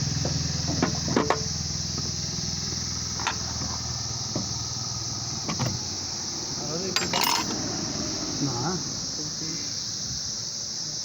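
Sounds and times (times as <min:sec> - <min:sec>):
tractor engine idling: 0:00.0 - 0:10.7.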